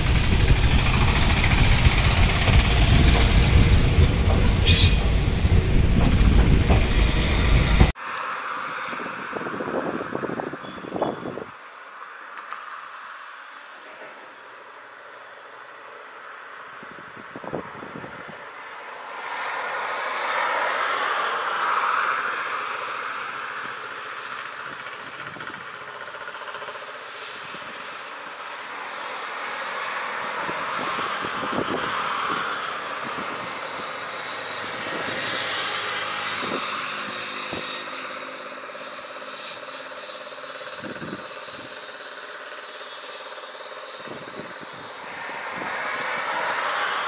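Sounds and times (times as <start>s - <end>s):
passenger train running: 0.0s - 8.4s, 13.7s - 47.0s.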